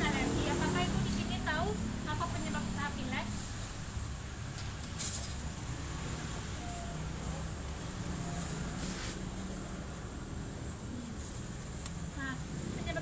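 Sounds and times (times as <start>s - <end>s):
background noise and hiss: 0.0s - 13.0s.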